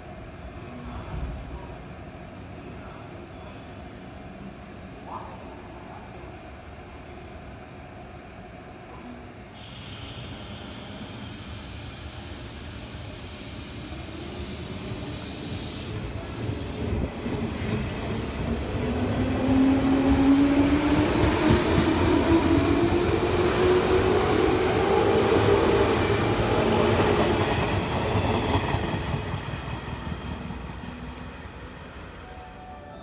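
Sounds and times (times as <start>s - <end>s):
train wheel and rail noise: 0.0s - 33.0s.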